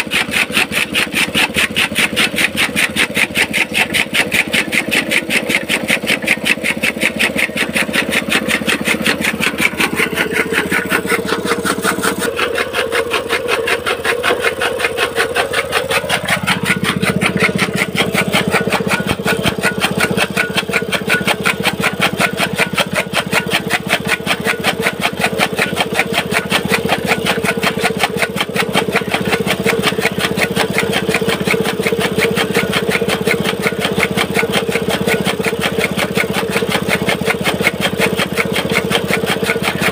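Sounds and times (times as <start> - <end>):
chaff cutter chopping fodder: 0.0 - 39.9
small petrol engine running: 0.0 - 39.9.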